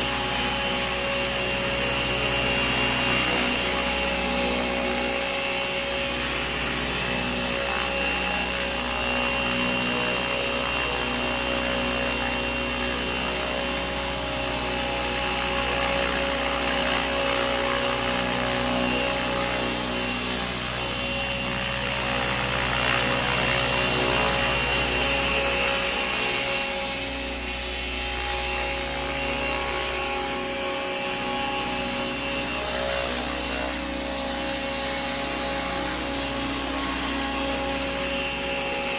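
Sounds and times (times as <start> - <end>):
helicopter rotor noise: 0.0 - 38.9
model helicopter motor whine: 0.0 - 38.9.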